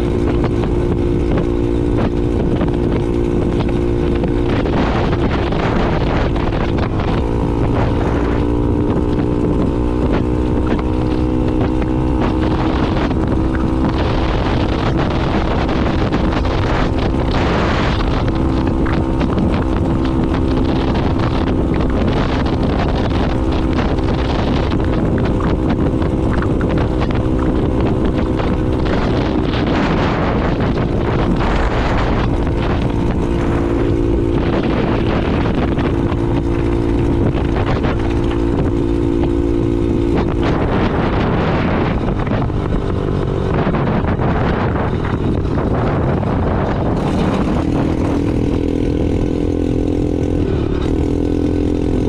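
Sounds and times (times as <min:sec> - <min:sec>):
motorcycle engine running: 0:00.0 - 0:52.0
wind rushing over microphone: 0:00.0 - 0:52.0.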